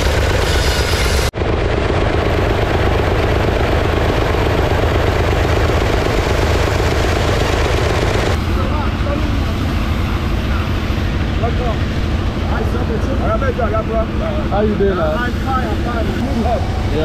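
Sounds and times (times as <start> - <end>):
stationary engine chugging: 0.0 - 17.0.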